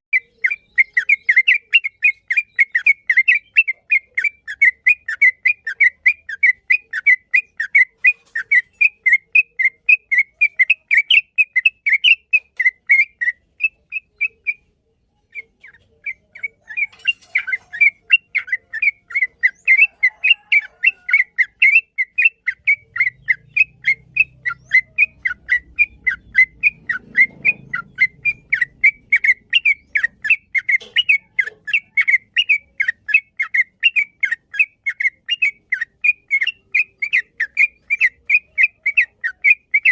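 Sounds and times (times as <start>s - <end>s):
bird chirping whistles: 0.2s - 39.9s.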